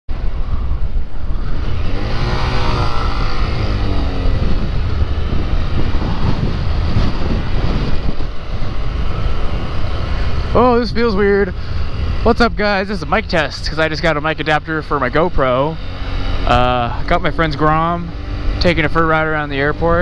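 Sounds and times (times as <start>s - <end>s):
wind rumble on microphone: 0.1s - 20.0s
motorcycle engine running: 0.2s - 20.0s.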